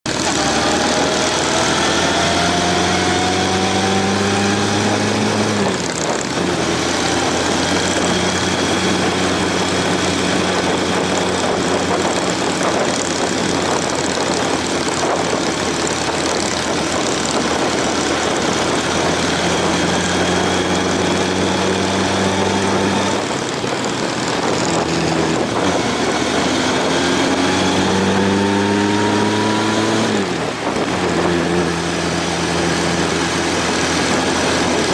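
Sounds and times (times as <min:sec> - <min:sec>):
motorcycle engine accelerating: 0:00.1 - 0:34.9
wind rush: 0:00.1 - 0:34.9.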